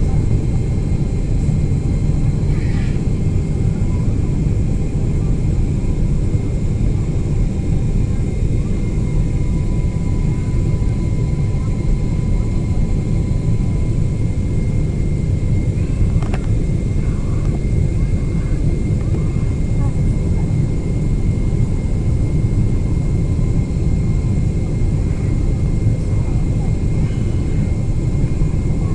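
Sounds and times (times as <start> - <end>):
jet engine cabin rumble: 0.0 - 28.9.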